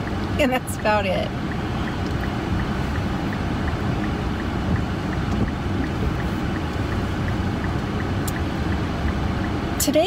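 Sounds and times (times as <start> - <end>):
car engine rumble and hiss: 0.0 - 10.0
faint regular ticking: 0.0 - 10.0.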